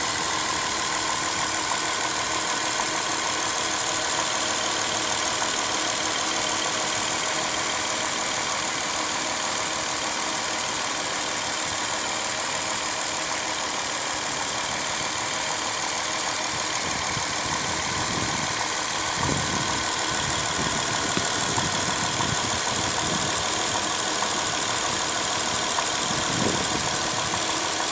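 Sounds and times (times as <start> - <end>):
car engine idling with knock: 0.0 - 27.9.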